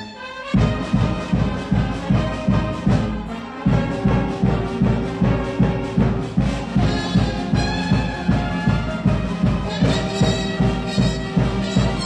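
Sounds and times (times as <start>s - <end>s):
brass melody: 0.0s - 12.0s
steady drum beat: 0.5s - 12.0s.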